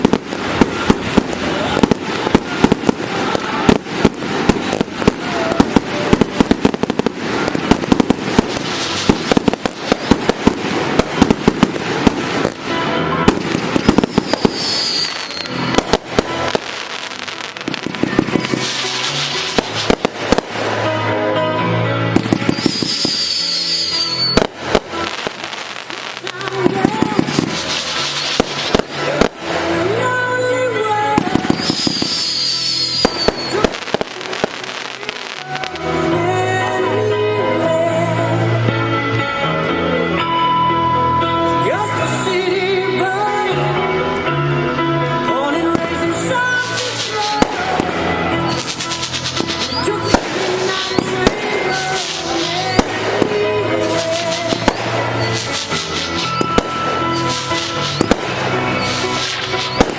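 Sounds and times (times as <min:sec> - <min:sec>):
fireworks bangs and cracks: 0:00.0 - 0:36.8, 0:45.5 - 0:59.9
music: 0:00.0 - 0:59.9.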